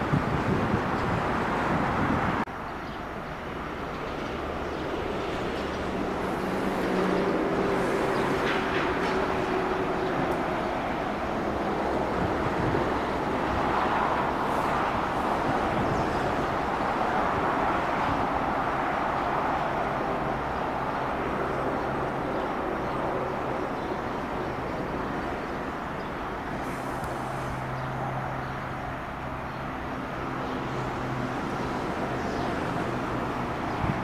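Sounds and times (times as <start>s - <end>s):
train wheels rolling on rail: 3.0s - 34.0s.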